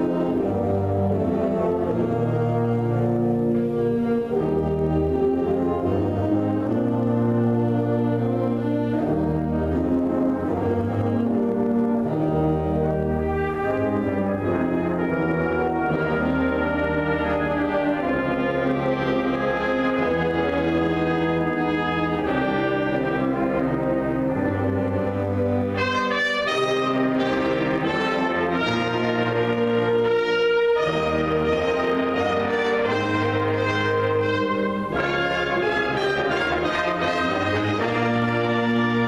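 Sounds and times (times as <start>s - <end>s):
concert band playing slow piece: 0.0s - 39.0s.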